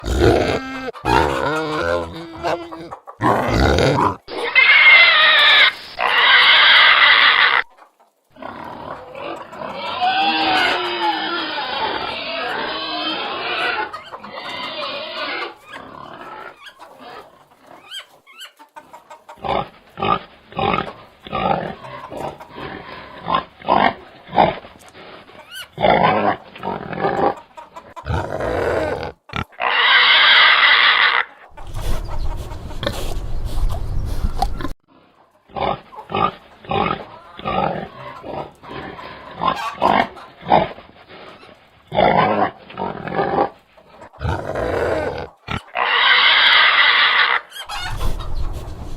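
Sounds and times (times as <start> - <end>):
pigs grunting: 0.0 - 7.6, 8.3 - 18.0, 19.3 - 48.9
pig squealing: 0.0 - 7.7, 8.4 - 18.6, 19.4 - 34.8, 35.5 - 43.6, 44.2 - 48.9.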